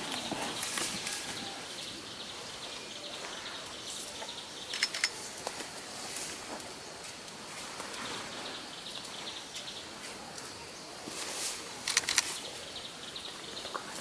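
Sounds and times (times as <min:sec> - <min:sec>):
birds: 0:00.0 - 0:14.0
insects chorus: 0:00.0 - 0:14.0.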